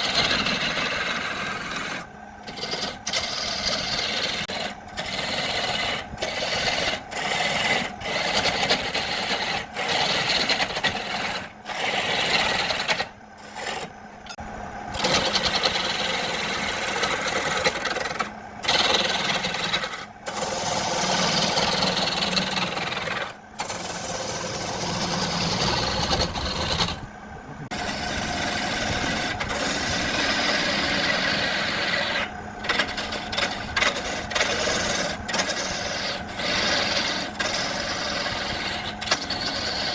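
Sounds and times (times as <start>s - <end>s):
wood rasping and scraping: 0.0s - 39.9s.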